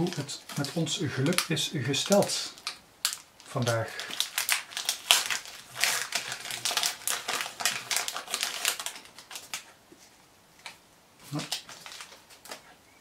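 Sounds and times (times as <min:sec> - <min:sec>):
foil wrapper tearing and crinkling: 0:00.0 - 0:09.7, 0:11.2 - 0:12.6.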